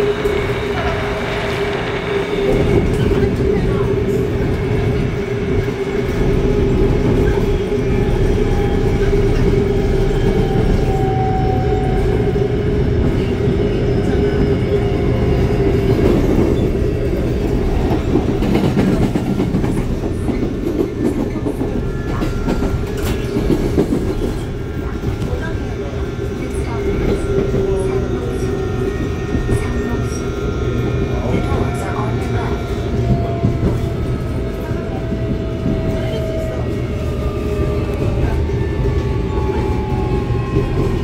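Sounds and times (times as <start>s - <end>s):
electric train running rumble: 0.0s - 41.0s.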